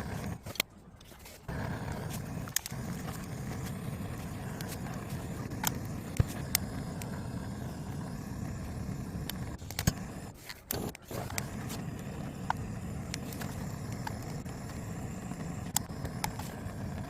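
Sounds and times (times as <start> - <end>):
campfire rumble: 0.0 - 17.0
logs crackling and popping: 0.0 - 17.0.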